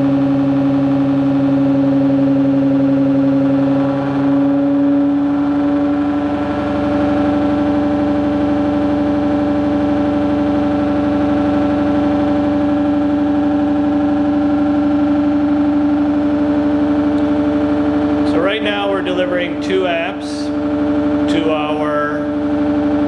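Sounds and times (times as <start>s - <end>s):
stepper motor electrical whine: 0.0s - 23.0s.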